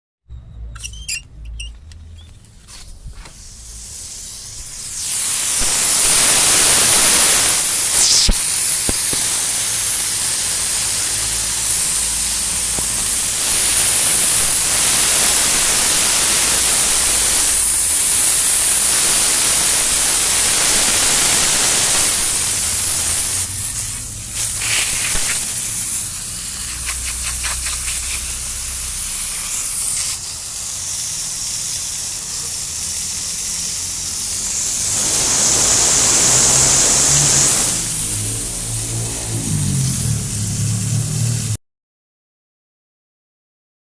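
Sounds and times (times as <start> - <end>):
high-pressure water hose spraying: 2.8 - 41.6.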